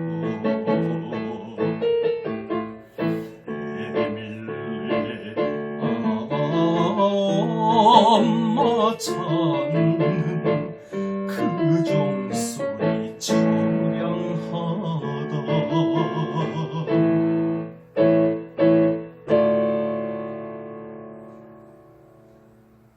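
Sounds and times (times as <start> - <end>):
keyboard piano chords: 0.0 - 22.9.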